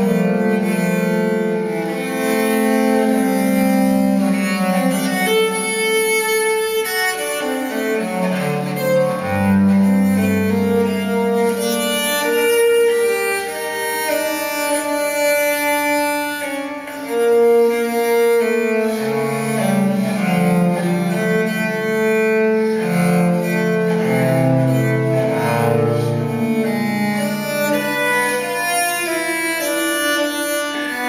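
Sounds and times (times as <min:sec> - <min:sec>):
deep cello lines: 0:00.0 - 0:31.0
violin: 0:00.0 - 0:31.0.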